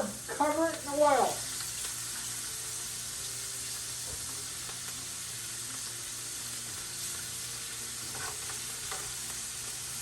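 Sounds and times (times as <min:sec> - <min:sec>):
beans sizzling in hot oil: 0:00.0 - 0:10.0.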